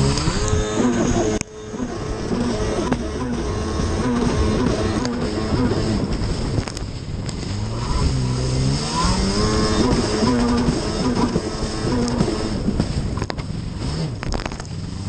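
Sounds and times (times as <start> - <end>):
jet ski engine at high revs: 0.0 - 15.0.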